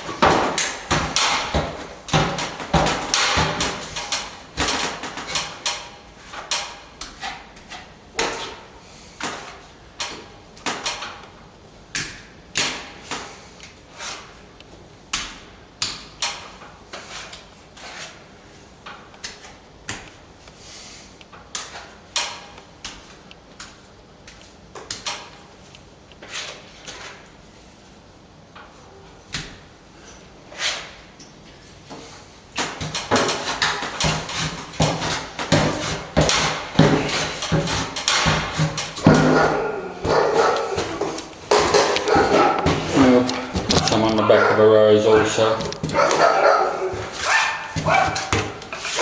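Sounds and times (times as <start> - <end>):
plastering tool scraping ceiling: 0.0 - 11.2, 12.6 - 14.6, 15.8 - 23.2, 26.2 - 27.9, 30.0 - 49.0.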